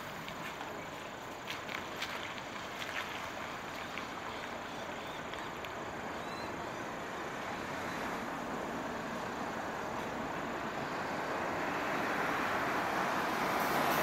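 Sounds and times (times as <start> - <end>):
vehicle noise hiss: 0.0 - 14.0.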